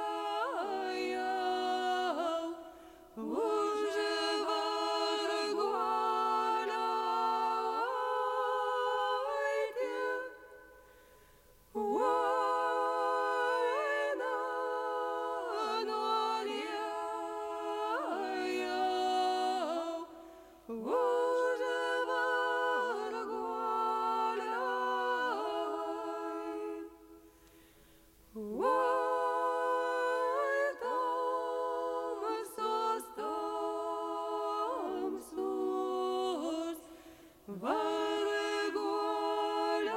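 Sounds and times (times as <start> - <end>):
unaccompanied voices singing folk song: 0.0 - 39.9.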